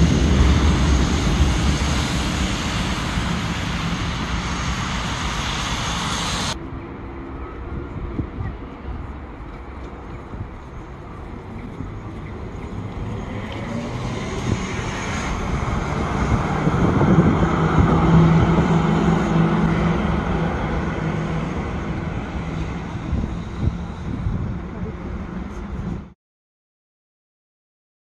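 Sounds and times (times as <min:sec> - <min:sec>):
tram passing: 0:00.0 - 0:26.2.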